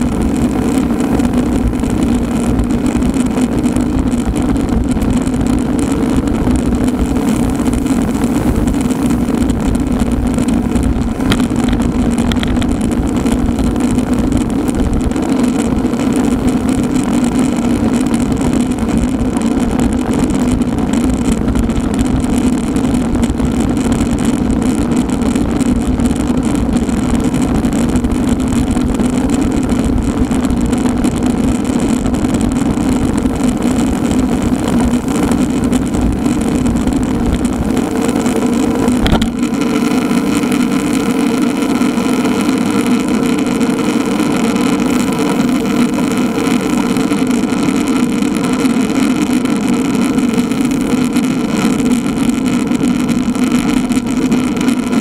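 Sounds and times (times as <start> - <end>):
constant low hum: 0.0 - 55.0
wind and road noise: 0.0 - 55.0.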